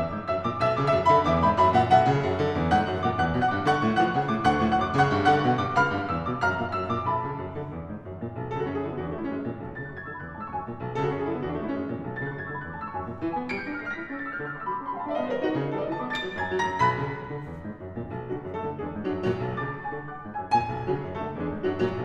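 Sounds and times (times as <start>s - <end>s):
instrumental piano music: 0.0s - 22.0s.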